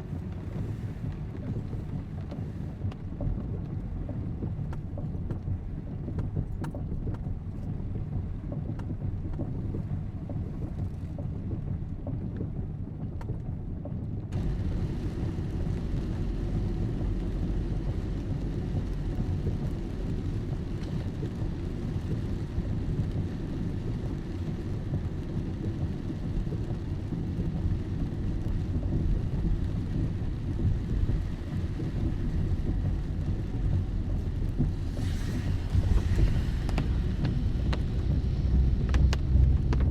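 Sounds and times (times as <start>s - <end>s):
raindrop ticks: 0.0s - 39.9s
steady rain: 0.0s - 39.9s.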